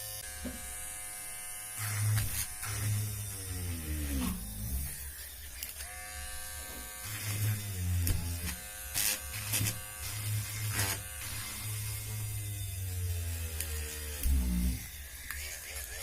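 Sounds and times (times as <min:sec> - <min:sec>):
mini drill motor whining: 0:00.0 - 0:16.0.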